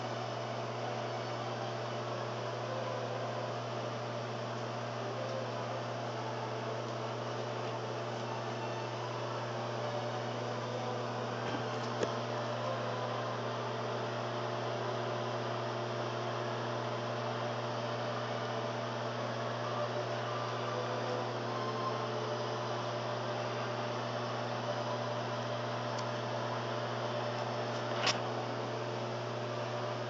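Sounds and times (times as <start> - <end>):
cooling fan whirring: 0.0 - 30.0
microwave oven electrical hum: 0.0 - 30.0.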